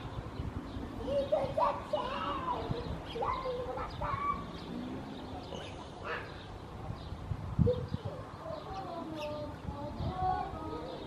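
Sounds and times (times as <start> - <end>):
birds calling: 0.0 - 11.0
distant voices murmuring: 0.0 - 11.0.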